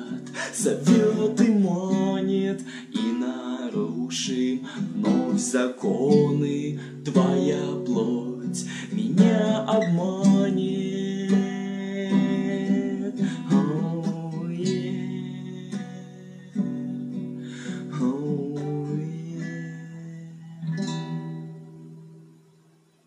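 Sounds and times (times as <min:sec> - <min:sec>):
acoustic guitar chords ringing: 0:00.0 - 0:23.0.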